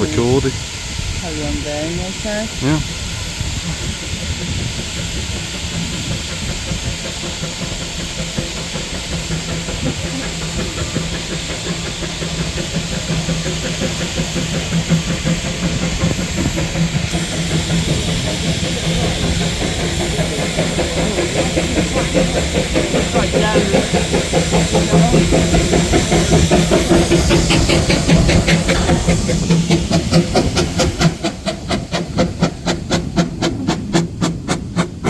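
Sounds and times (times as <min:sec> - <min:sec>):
steam locomotive hissing steam: 0:00.0 - 0:35.0.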